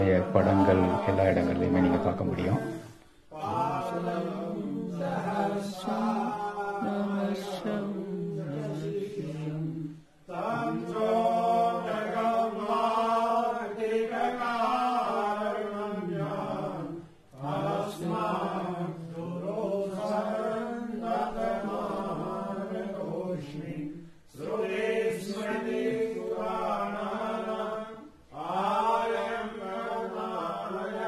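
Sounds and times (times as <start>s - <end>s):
person chanting mantras: 0.0s - 31.0s.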